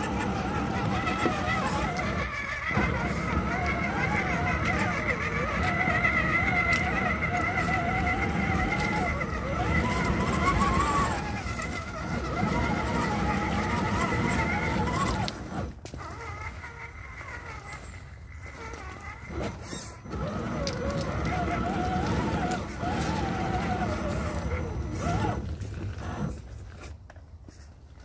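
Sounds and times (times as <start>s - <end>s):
electric motor and gear whine: 0.0s - 27.3s.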